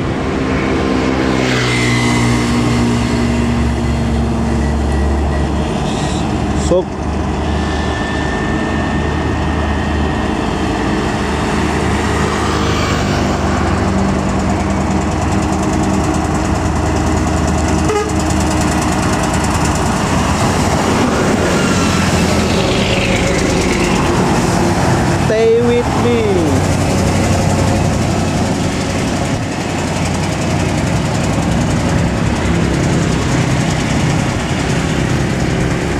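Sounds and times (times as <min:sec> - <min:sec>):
heavy diesel vehicles passing: 0:00.0 - 0:35.9.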